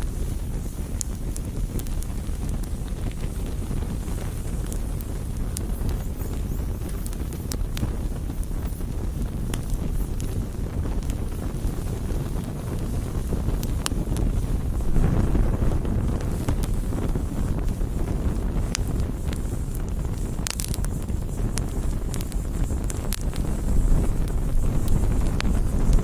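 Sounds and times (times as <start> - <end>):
burning wood crackling: 0.0 - 26.0
campfire flame rushing: 0.0 - 26.0.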